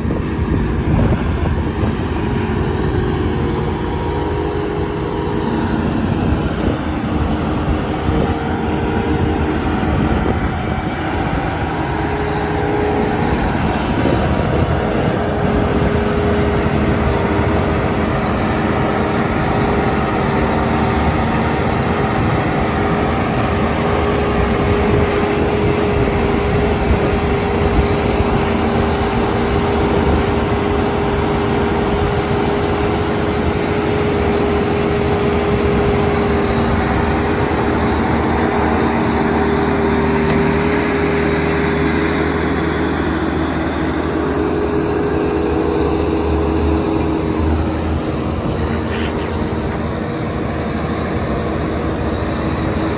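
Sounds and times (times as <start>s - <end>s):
diesel engine running: 0.0s - 52.9s
steady whine: 0.0s - 52.9s.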